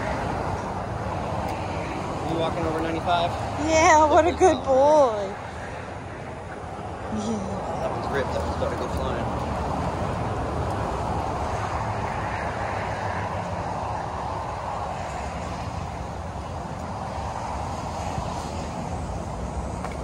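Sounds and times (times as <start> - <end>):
highway traffic roar: 0.0 - 20.0.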